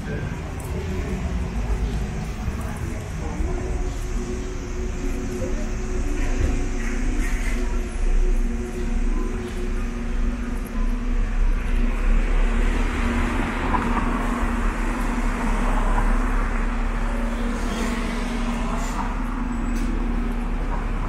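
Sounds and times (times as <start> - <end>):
engine hum: 0.0 - 21.0
road traffic rumble: 0.0 - 21.0.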